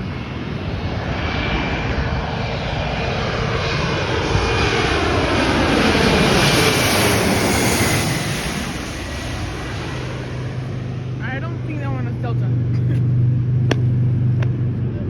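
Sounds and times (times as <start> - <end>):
jet airliner passing overhead: 0.0 - 15.0
jet engine whine gliding downward: 0.0 - 15.0.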